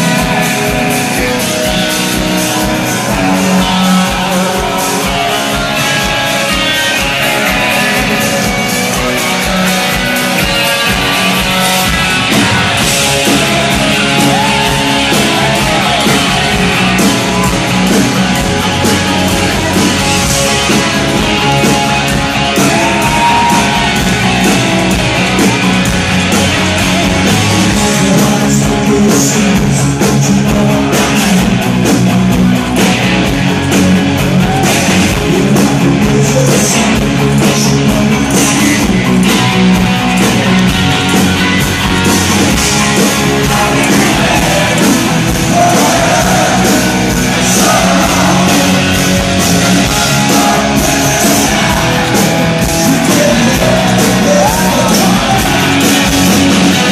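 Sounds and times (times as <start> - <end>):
person singing: 0.0 - 31.8, 34.2 - 56.9
live rock band playing: 0.0 - 56.9.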